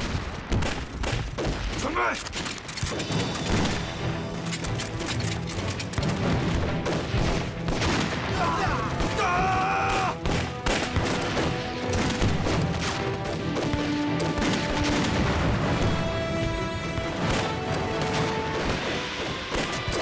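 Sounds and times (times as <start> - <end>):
rifle shots: 0.0 - 4.0, 4.6 - 9.2, 10.2 - 20.0
dramatic film music: 0.0 - 20.0.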